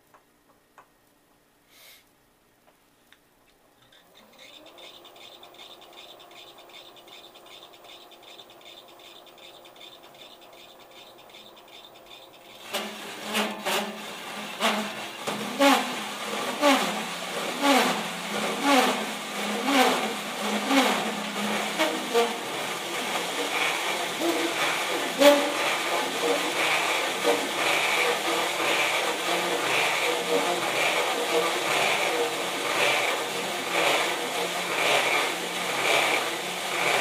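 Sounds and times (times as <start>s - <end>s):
hole saw scraping and squealing: 3.8s - 37.0s
milling machine spindle whine: 4.0s - 37.0s.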